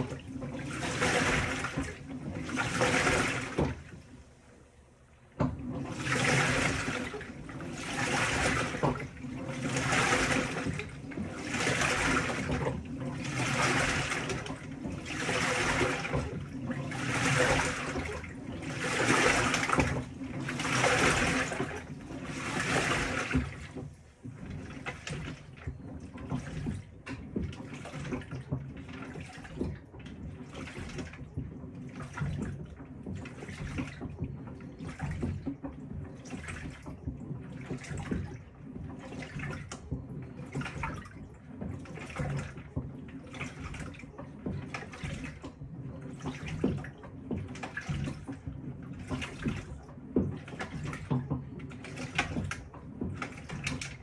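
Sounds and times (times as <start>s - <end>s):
washing machine sloshing water: 0.0s - 54.0s.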